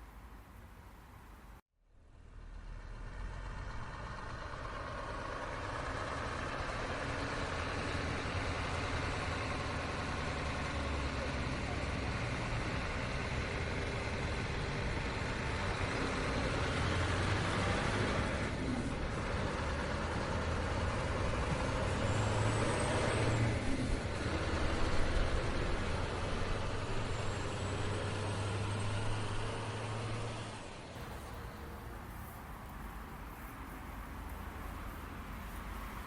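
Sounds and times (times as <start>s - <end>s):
truck engine drone: 1.9s - 36.0s
tyre and road noise: 2.4s - 36.0s.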